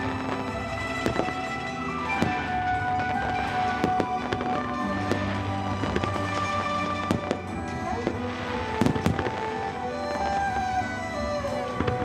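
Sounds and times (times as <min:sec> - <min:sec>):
fireworks bangs and crackle: 0:00.0 - 0:12.0
music with long held notes: 0:00.0 - 0:12.0.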